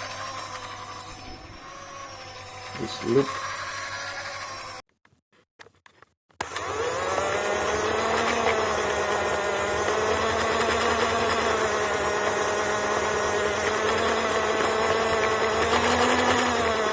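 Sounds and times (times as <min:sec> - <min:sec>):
toy train motor whine: 0:00.0 - 0:04.8, 0:06.4 - 0:16.9.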